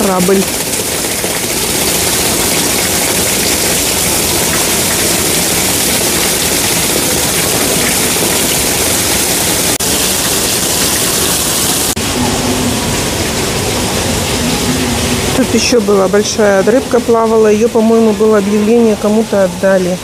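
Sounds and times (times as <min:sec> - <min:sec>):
splashing running water: 0:00.0 - 0:20.0.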